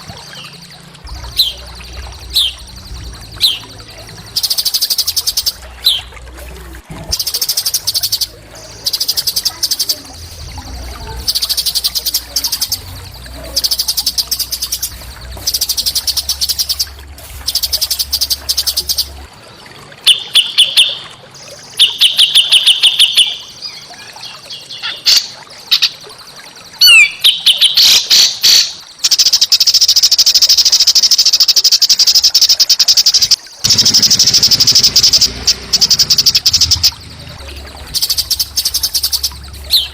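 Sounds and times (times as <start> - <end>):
songbirds trilling: 0.0 - 29.1, 33.0 - 39.9.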